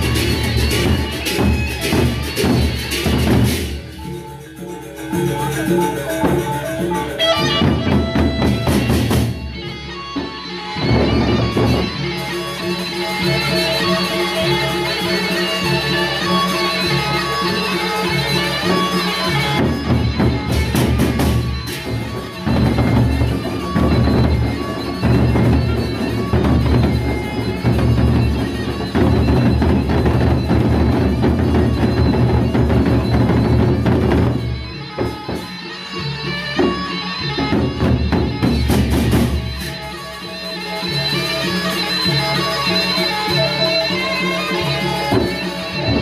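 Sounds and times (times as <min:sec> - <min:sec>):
held tones of ensemble: 0:00.0 - 0:46.0.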